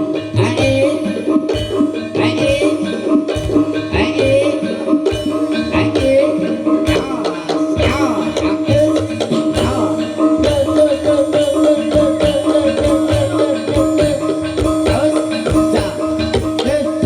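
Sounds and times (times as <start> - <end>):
drums beating: 0.0 - 17.0
wavering melody line: 0.0 - 17.0.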